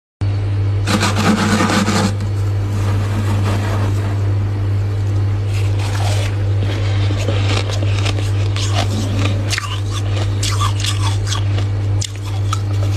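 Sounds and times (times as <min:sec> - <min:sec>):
steady low hum: 0:00.2 - 0:12.9
freezer frost scraping: 0:00.8 - 0:12.9.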